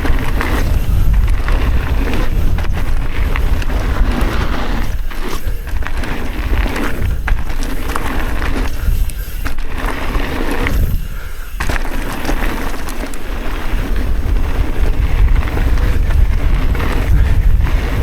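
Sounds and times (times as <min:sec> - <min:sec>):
bike rattling on dirt trail: 0:00.0 - 0:18.0
wind rumble on microphone: 0:00.0 - 0:18.0.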